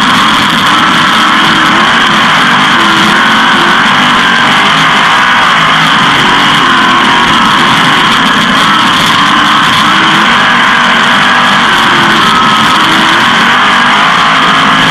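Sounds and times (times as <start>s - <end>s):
race car engine running hard: 0.0s - 14.9s.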